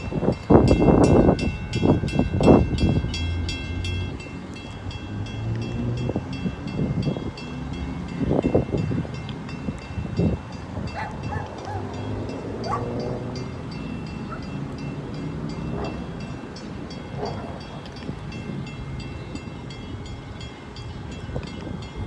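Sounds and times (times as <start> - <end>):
warning bell ringing: 0.0 - 22.0.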